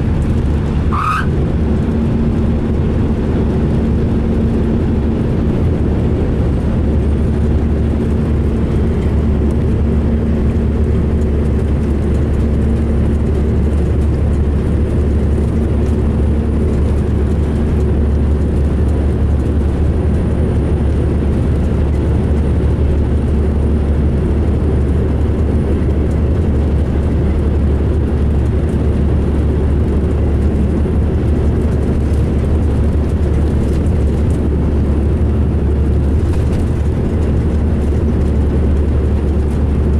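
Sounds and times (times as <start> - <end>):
diesel coach engine droning: 0.0 - 39.9.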